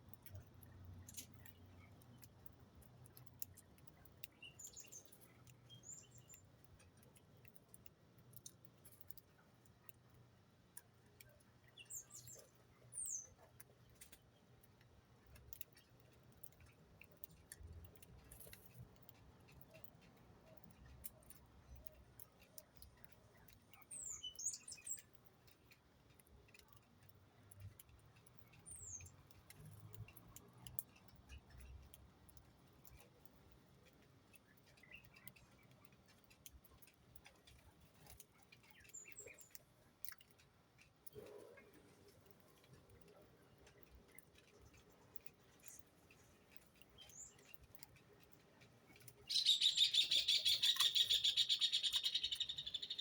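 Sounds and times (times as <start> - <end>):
light ticks and taps: 0.0 - 49.4
small birds chirping: 0.0 - 53.0.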